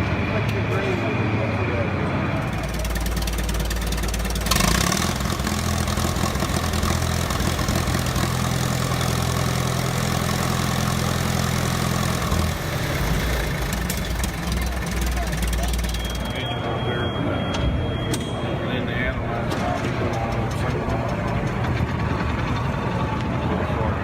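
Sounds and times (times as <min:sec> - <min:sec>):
tractor engine running: 0:02.1 - 0:16.8, 0:19.4 - 0:24.0.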